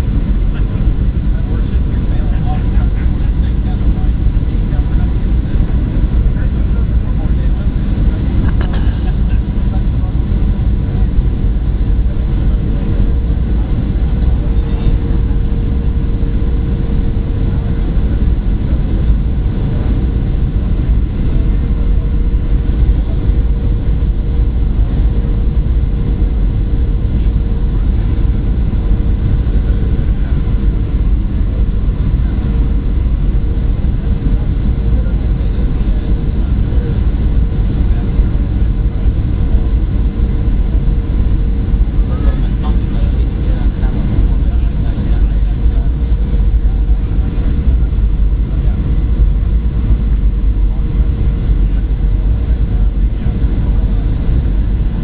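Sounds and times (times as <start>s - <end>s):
airplane cabin airflow and engines: 0.0s - 55.0s
steady hum: 0.0s - 55.0s.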